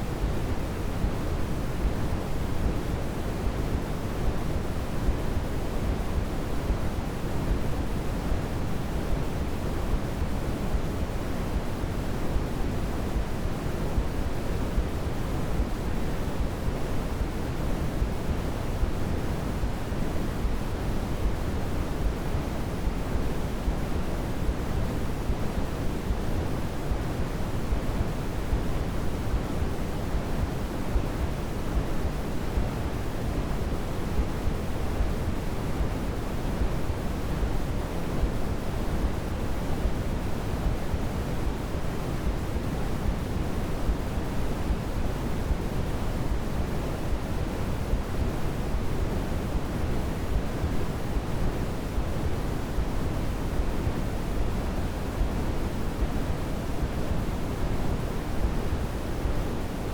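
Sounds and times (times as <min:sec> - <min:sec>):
deep soft white noise: 0:00.0 - 0:59.9.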